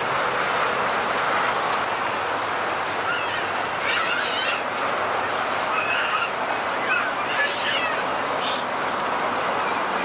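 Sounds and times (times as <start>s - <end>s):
crowd murmuring: 0.1s - 10.0s
voices calling out: 1.0s - 10.0s.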